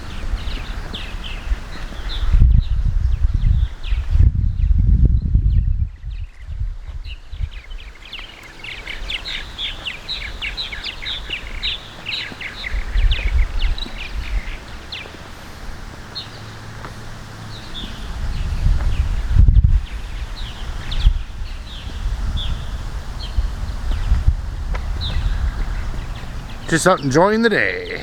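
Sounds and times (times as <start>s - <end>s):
swallows twittering: 0.0s - 4.2s, 7.1s - 16.6s, 17.4s - 28.0s
wind rumbling on microphone: 0.0s - 28.0s.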